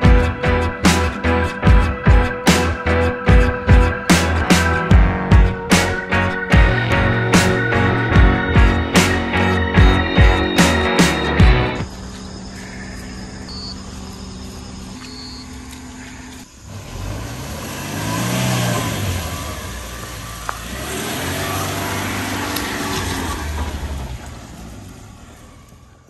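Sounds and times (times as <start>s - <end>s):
car engine revving: 0.0s - 11.8s, 16.5s - 25.8s.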